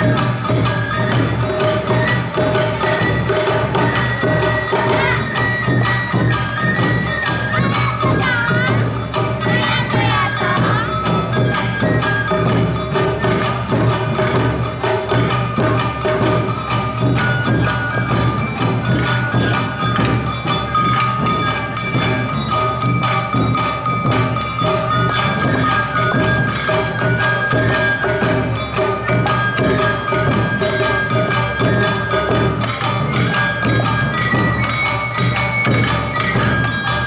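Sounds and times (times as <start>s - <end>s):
drums playing fast beat: 0.0s - 37.0s.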